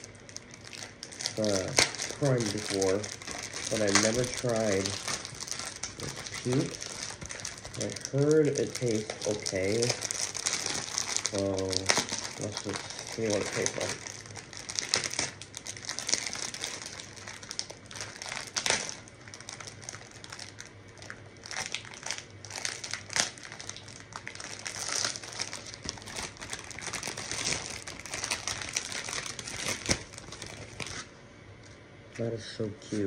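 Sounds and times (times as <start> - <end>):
plastic wrapping crackling: 0.0 - 31.8.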